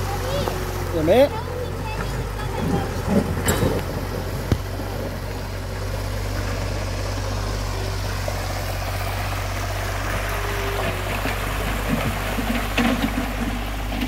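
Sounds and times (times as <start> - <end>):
excavator diesel engine running: 0.0 - 14.0
river rushing over rocks: 0.0 - 14.0.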